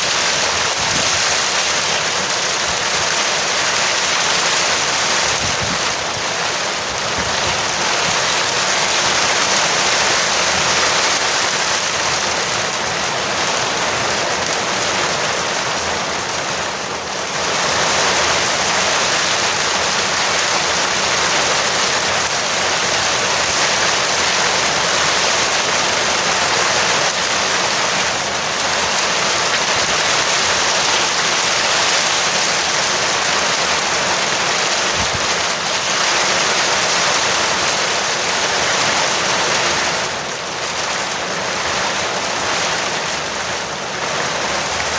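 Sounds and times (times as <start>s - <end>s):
heavy rain drumming on a roof: 0.0s - 44.9s.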